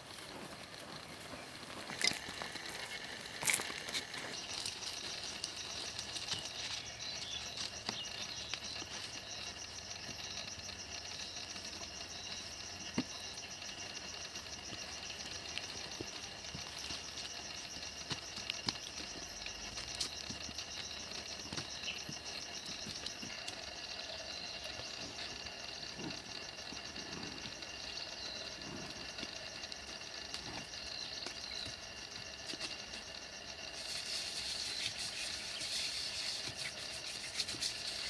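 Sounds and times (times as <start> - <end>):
insects trilling: 0.0 - 38.0.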